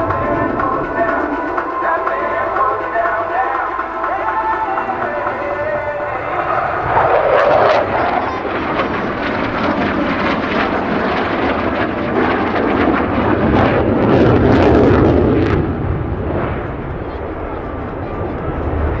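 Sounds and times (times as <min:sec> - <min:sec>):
jet engine crackling: 0:00.0 - 0:19.0.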